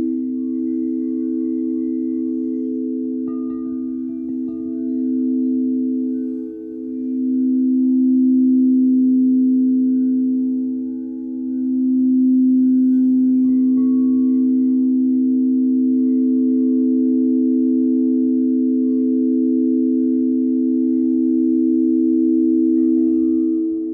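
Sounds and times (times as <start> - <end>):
singing bowls sustained chord: 0.0 - 23.9.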